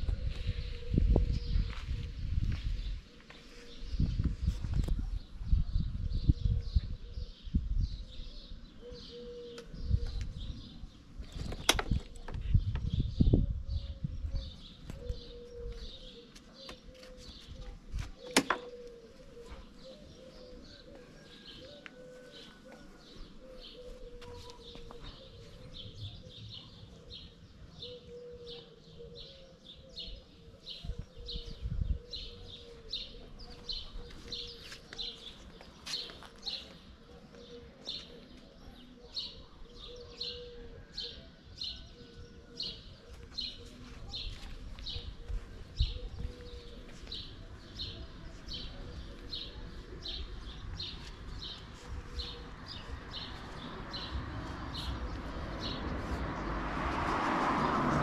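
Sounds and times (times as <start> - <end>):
small birds chirping: 0.0 - 56.5.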